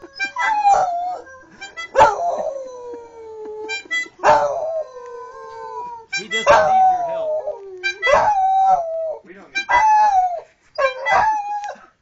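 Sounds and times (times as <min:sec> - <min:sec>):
dog howling: 0:00.0 - 0:11.8.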